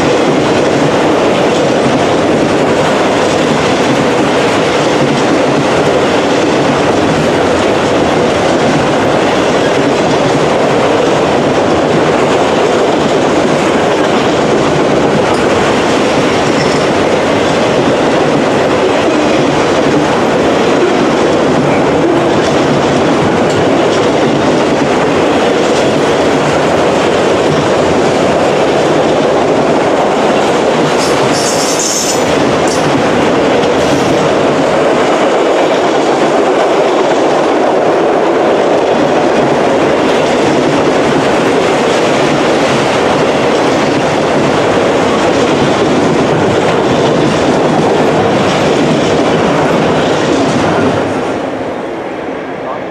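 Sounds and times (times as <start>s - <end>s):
steel wheels rumbling on rails: 0.0s - 52.9s.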